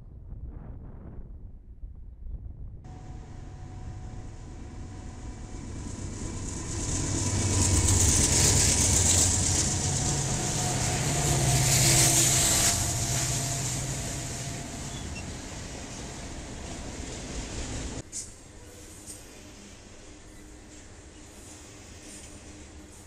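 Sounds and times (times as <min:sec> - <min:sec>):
diesel locomotive engine rumble: 0:02.9 - 0:23.0
steel wheels hissing on rail: 0:03.0 - 0:23.0.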